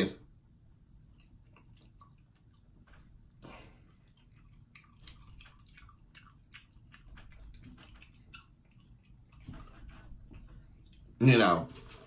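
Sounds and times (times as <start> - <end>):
chewing food: 1.0 - 11.2.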